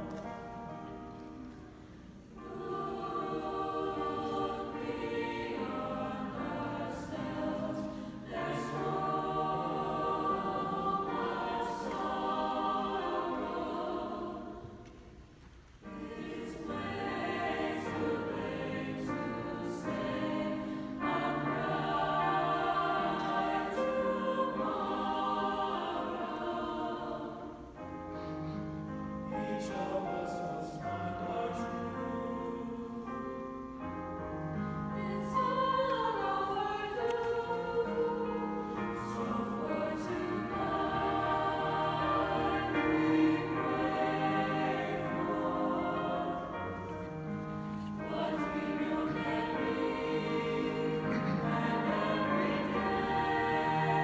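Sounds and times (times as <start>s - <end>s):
piano accompaniment: 0.0s - 14.8s, 15.8s - 54.0s
mixed choir singing: 0.0s - 15.2s, 15.8s - 54.0s.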